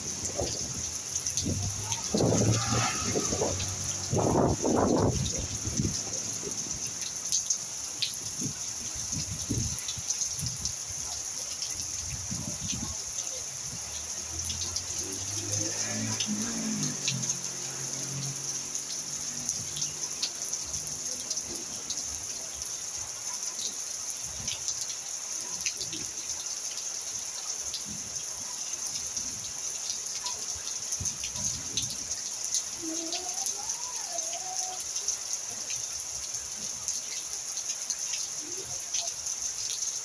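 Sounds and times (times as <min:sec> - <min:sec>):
raindrops splashing on wet surfaces: 0:00.0 - 0:40.0
steady rain hiss: 0:00.0 - 0:40.0.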